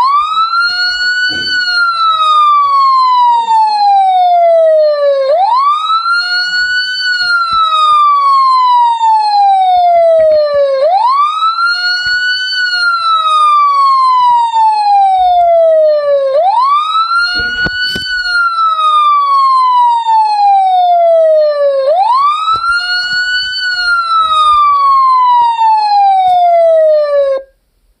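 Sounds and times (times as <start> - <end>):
police siren wailing: 0.0 - 27.5.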